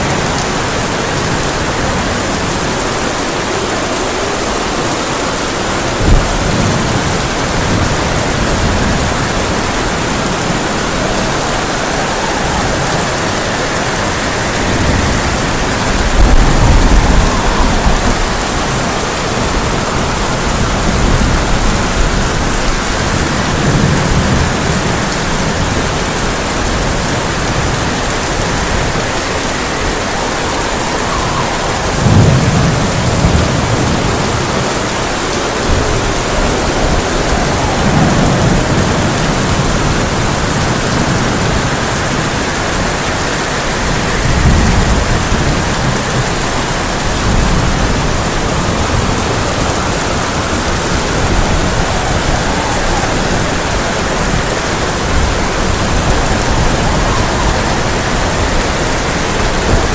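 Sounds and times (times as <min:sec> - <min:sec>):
heavy rain on a tin roof: 0:00.0 - 0:59.9
thunder rumbling: 0:00.0 - 0:59.9.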